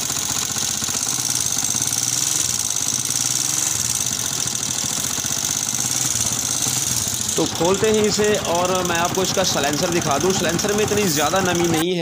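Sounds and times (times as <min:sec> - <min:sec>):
engine ticking: 0:00.0 - 0:12.0
motorcycle engine idling: 0:00.0 - 0:12.0.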